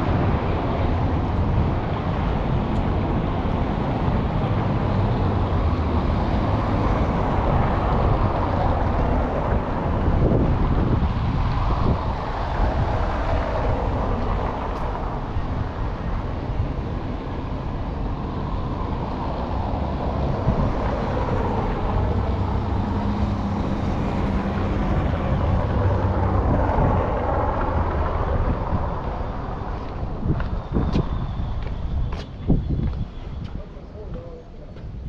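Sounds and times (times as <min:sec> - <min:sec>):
engine hum: 0:00.0 - 0:35.0
road traffic rumble: 0:00.0 - 0:35.0
wind noise on microphone: 0:00.0 - 0:35.0.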